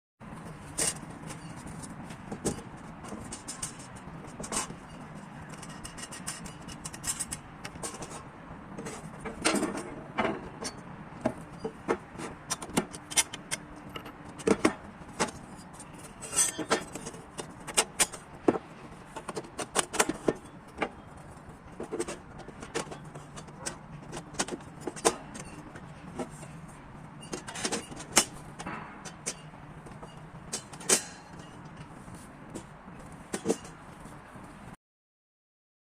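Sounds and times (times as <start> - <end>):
metal barbecue parts clanking: 0.6 - 32.0, 33.3 - 33.8.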